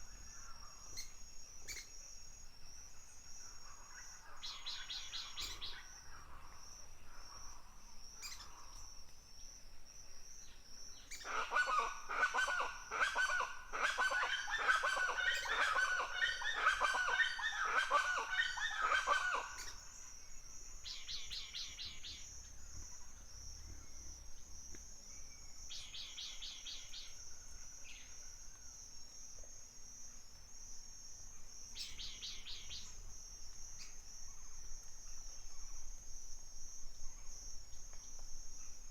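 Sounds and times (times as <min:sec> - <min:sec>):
high insect trill: 0:00.0 - 0:38.9.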